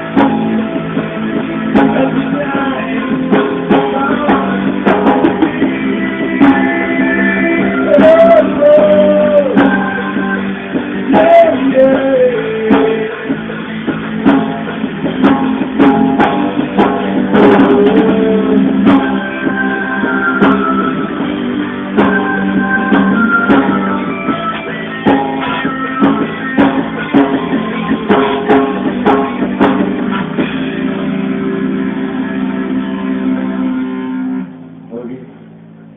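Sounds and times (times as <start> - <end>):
drum beat: 0.0 - 31.1
plucked guitar chords: 0.0 - 35.9
sliding lead melody: 0.0 - 35.9.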